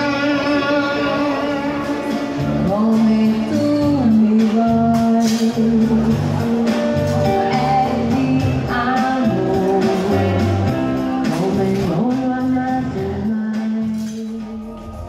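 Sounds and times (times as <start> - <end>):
electric guitar: 0.0 - 15.0
person singing: 0.0 - 15.0.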